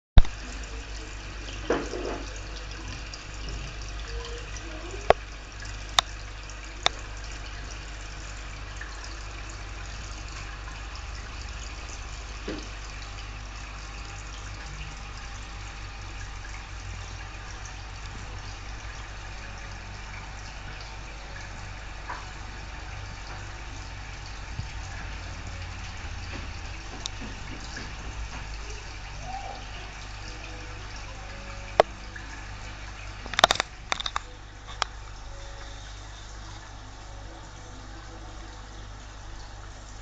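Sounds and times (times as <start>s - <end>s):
airstone bubbling: 0.2s - 37.6s.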